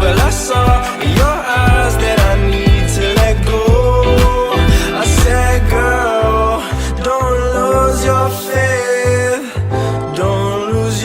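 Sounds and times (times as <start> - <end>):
pop music with deep bass: 0.0 - 11.0.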